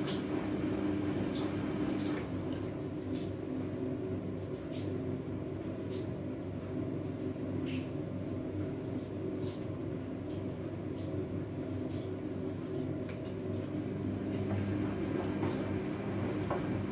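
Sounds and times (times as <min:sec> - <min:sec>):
washing machine motor hum: 0:00.0 - 0:16.9.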